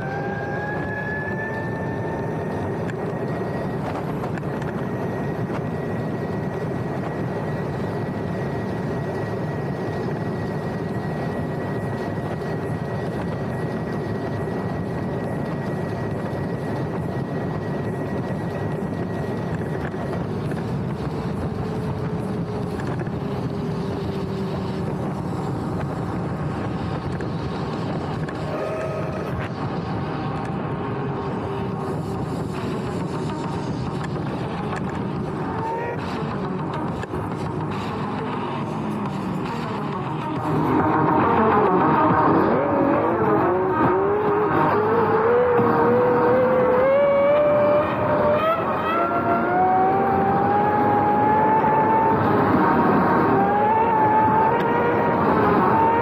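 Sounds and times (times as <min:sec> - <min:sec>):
electric scooter motor whine: 0:00.0 - 0:56.0
road noise: 0:00.0 - 0:56.0.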